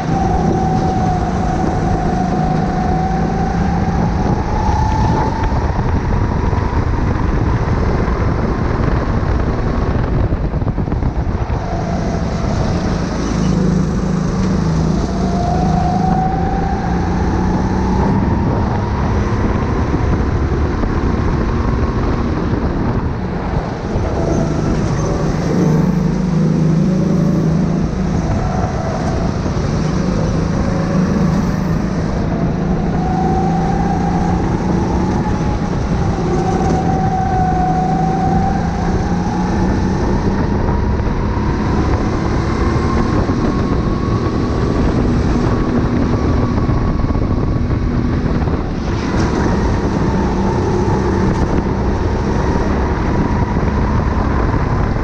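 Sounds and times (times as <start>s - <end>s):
kart engine at racing speed: 0.0s - 55.0s.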